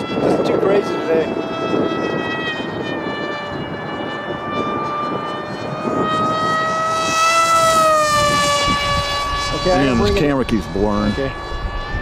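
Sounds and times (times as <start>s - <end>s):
model plane motor whine: 0.0s - 12.0s
wind rumble on microphone: 0.0s - 12.0s.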